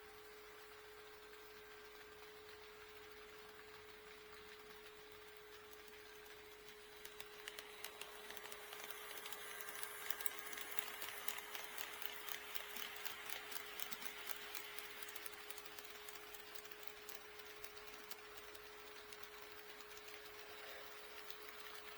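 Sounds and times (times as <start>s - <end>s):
model train wheels clicking: 0.0s - 21.9s.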